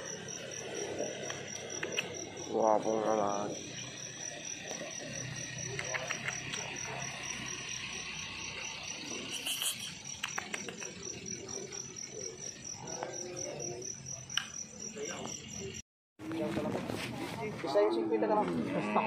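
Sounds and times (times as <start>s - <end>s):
crickets chirping: 0.0s - 15.8s.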